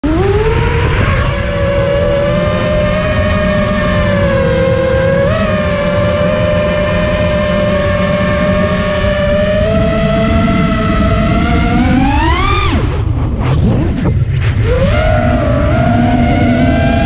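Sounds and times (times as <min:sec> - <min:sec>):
electric motor and propeller whine: 0:00.0 - 0:17.0
wind noise on microphone: 0:00.0 - 0:17.0.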